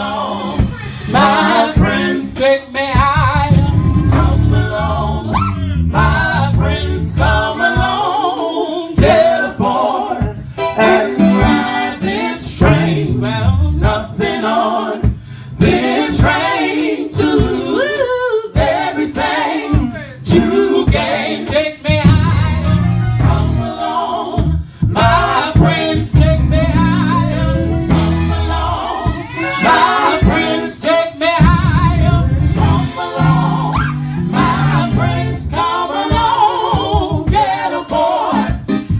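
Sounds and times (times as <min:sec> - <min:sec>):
steady beat: 0:00.0 - 0:05.1, 0:06.0 - 0:38.9
gospel singing: 0:00.0 - 0:38.9.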